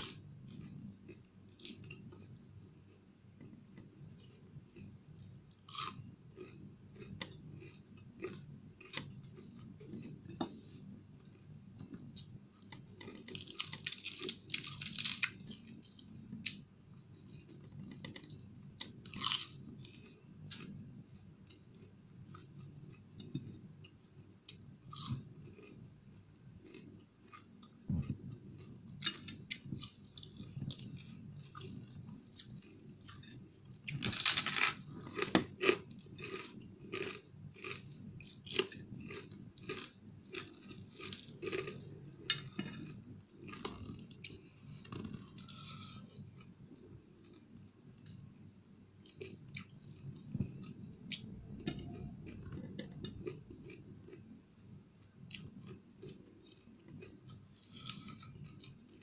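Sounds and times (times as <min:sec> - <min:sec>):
chewing crispy fried fish: 0:00.0 - 0:54.4, 0:55.3 - 0:59.0.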